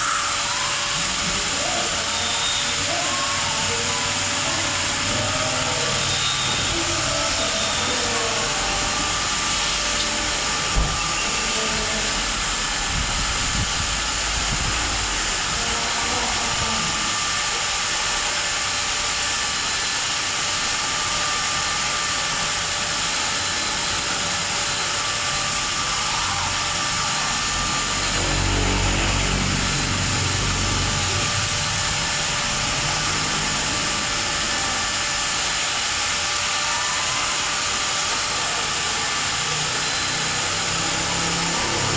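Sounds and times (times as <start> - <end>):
pressure washer spraying: 0.0 - 41.9.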